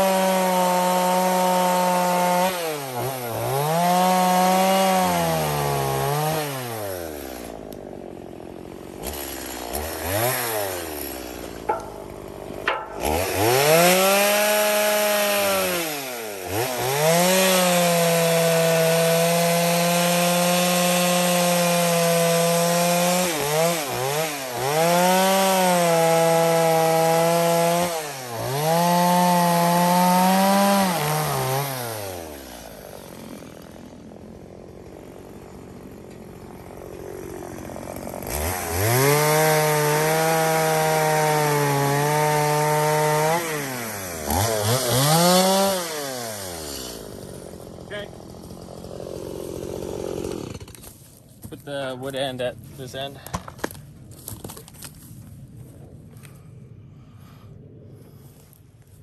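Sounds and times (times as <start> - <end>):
chainsaw cutting branches: 0.0 - 56.4.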